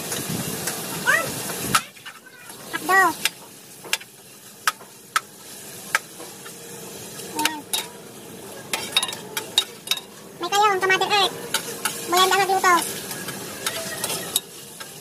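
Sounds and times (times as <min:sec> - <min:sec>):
meat sizzling: 0:00.0 - 0:15.0.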